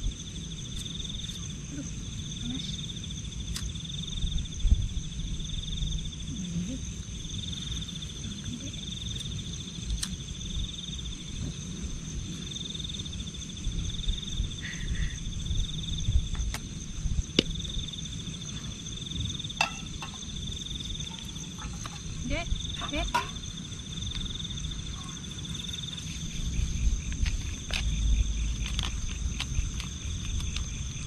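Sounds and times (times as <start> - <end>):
insect trilling: 0.0 - 4.5, 5.4 - 31.0
constant low rumble: 0.0 - 31.0.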